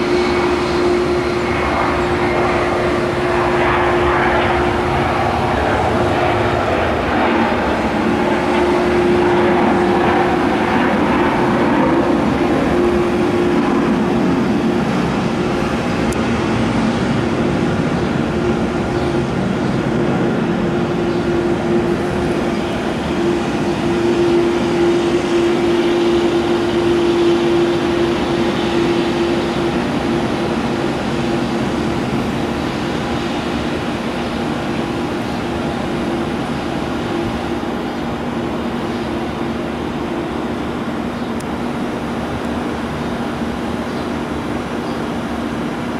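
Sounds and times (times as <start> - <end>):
jet engines droning: 0.0 - 45.9.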